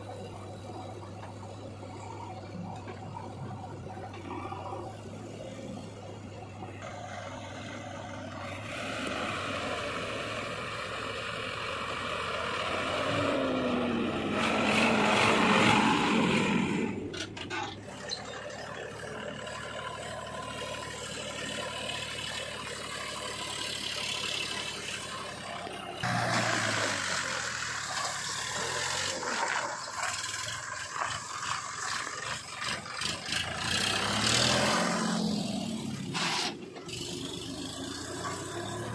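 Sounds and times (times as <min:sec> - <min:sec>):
diesel engines revving: 0:00.0 - 0:38.9.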